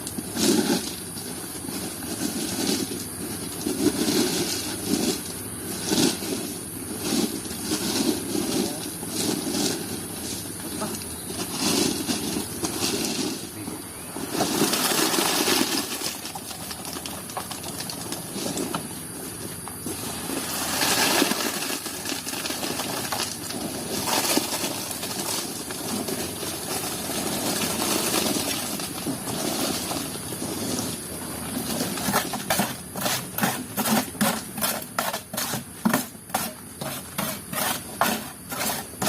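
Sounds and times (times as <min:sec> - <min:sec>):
concrete scraping with clinks: 0:00.0 - 0:39.0.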